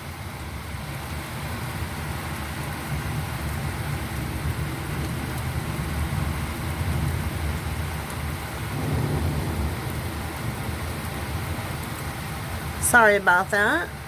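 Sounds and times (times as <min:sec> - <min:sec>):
heavy rain on a metal roof: 0:00.0 - 0:14.0.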